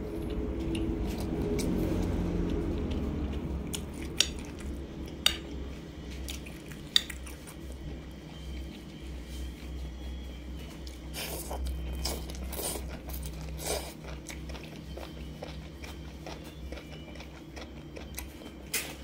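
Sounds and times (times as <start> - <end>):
steady low hum: 0.0 - 19.0
chewing and mouth sounds: 0.2 - 8.9, 10.6 - 19.0.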